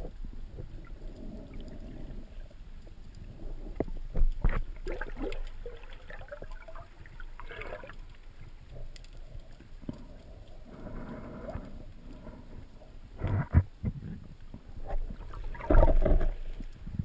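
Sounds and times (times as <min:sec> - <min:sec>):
water sloshing and gurgling: 0:00.0 - 0:17.0.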